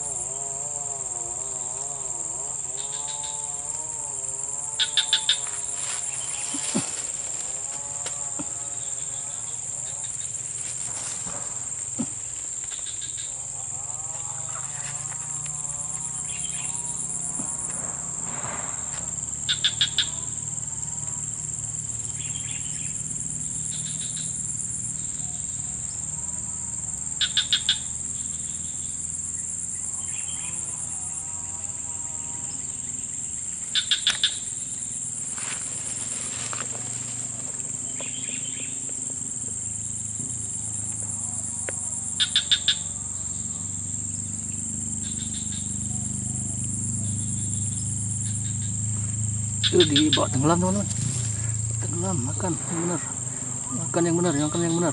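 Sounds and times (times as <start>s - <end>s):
quick sharp insect chirps: 0.0s - 26.2s, 26.8s - 54.9s
insect chorus: 0.0s - 54.9s
soft wavering insect calls: 0.0s - 54.9s.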